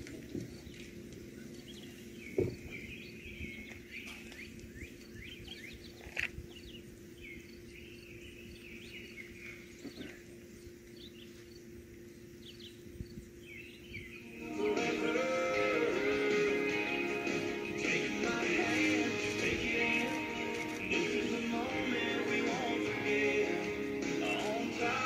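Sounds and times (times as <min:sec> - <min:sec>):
low steady hum: 0:00.0 - 0:25.0
songbirds chirping and singing: 0:00.0 - 0:25.0.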